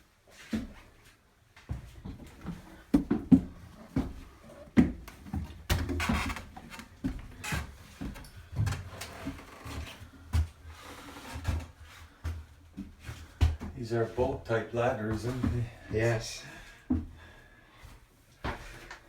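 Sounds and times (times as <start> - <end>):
footsteps on wooden stairs: 1.6 - 14.5, 15.1 - 19.0.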